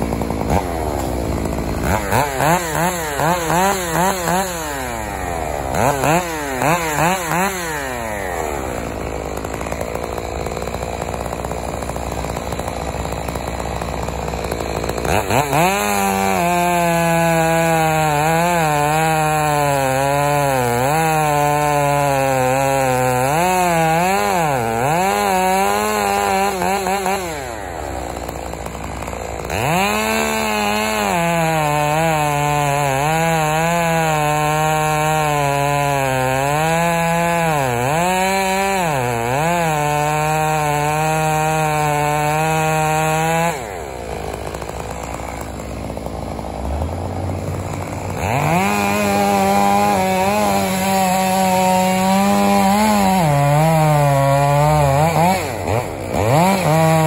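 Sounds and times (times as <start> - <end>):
chainsaw at full throttle: 0.0 - 57.0.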